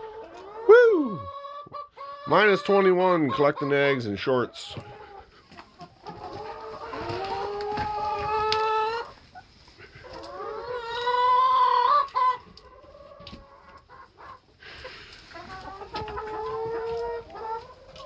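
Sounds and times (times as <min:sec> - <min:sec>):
hens calling and clucking: 0:00.0 - 0:18.0.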